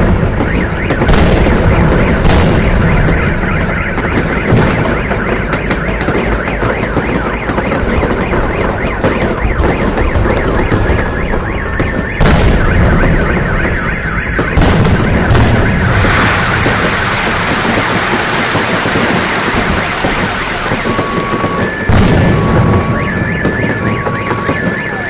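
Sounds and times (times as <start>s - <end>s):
fireworks bangs and crackles: 0.0s - 25.0s
heavy firework boom: 0.0s - 25.0s
siren wailing up and down: 0.0s - 25.0s.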